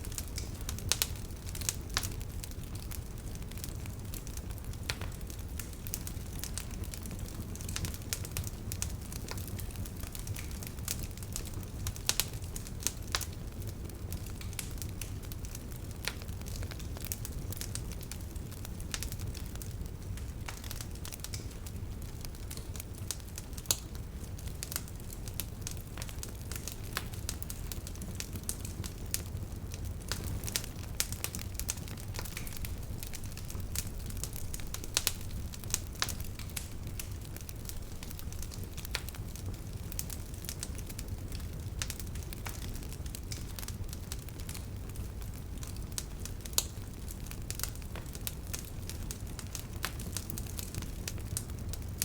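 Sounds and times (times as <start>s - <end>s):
campfire crackling: 0.0s - 52.0s.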